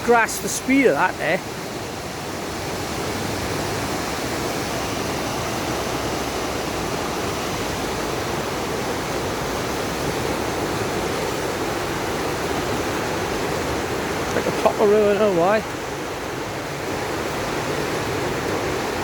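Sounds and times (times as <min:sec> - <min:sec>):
river torrent rushing: 0:00.0 - 0:19.0.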